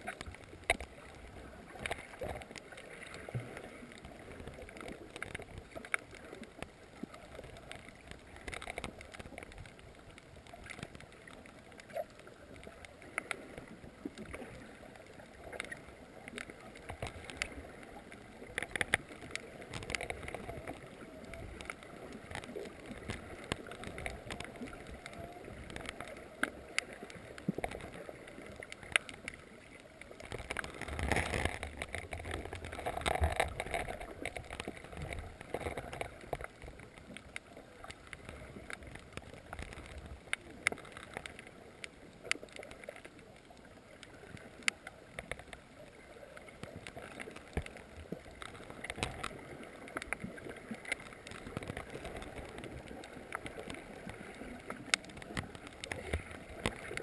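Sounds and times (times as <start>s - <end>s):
sharp underwater clicks and crackles: 0.0s - 57.0s
underwater water wash: 0.0s - 57.0s.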